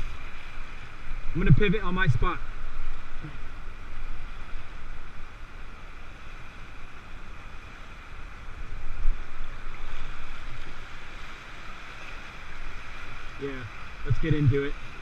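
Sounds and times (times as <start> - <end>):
whitewater rapids rushing: 0.0 - 15.0
wind on microphone: 0.0 - 15.0.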